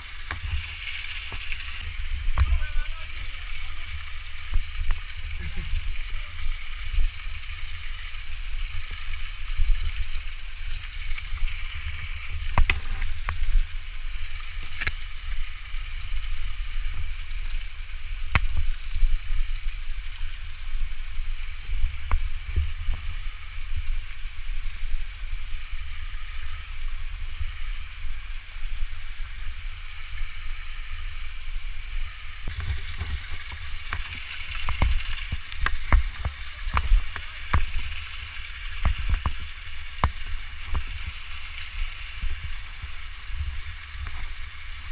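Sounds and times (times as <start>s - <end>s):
hiss of falling water: 0.0s - 44.9s
wind rumbling on microphone: 0.0s - 44.9s.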